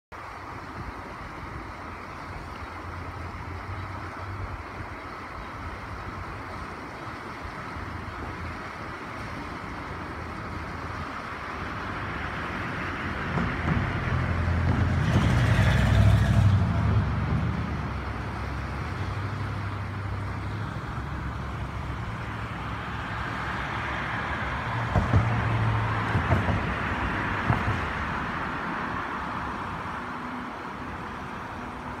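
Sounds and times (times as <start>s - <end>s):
river water rushing over a dam: 0.2s - 32.0s.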